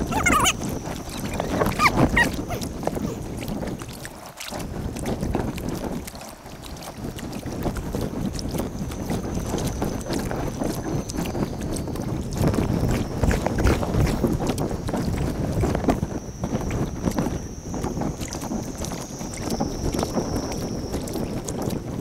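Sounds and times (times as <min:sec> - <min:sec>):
paddle splashes: 0:00.0 - 0:22.0
water sloshing against hull: 0:00.0 - 0:22.0
wind buffeting microphone: 0:00.0 - 0:22.0.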